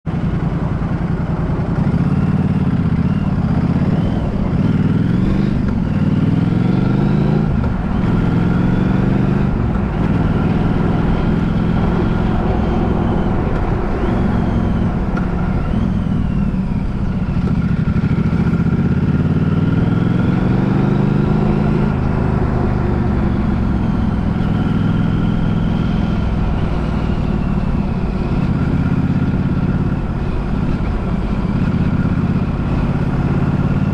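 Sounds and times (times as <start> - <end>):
road noise: 0.0 - 33.9
vehicle engine accelerating: 0.1 - 33.9.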